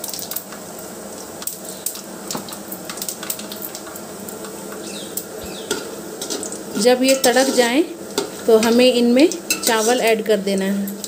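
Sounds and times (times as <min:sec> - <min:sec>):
oil crackling: 0:00.0 - 0:11.0
spices sizzling in hot oil: 0:00.0 - 0:11.0.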